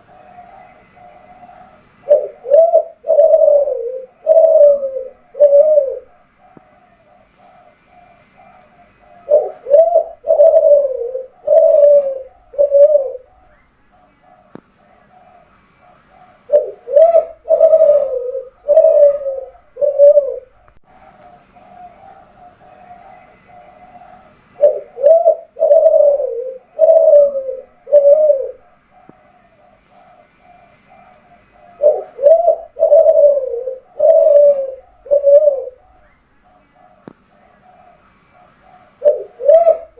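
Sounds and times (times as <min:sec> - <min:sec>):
dove cooing: 0:00.0 - 0:39.9
faint background cooing: 0:00.0 - 0:39.9.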